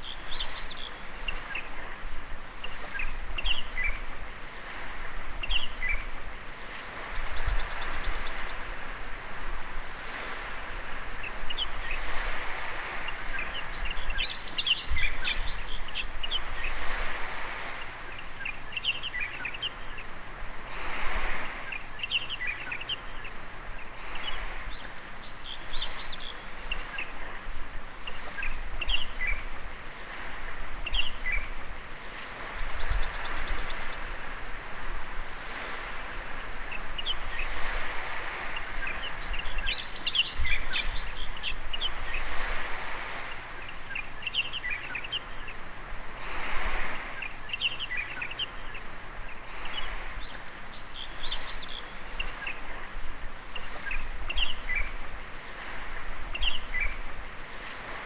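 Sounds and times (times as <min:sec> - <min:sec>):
birds chirping: 0:00.0 - 0:09.3, 0:10.0 - 0:20.2, 0:21.3 - 0:58.0
small waves washing onto beach: 0:00.0 - 0:58.0.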